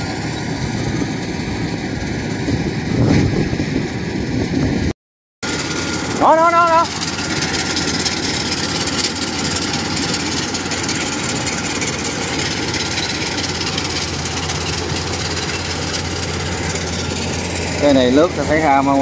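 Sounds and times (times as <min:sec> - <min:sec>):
combine harvester diesel engines: 0:00.0 - 0:19.0.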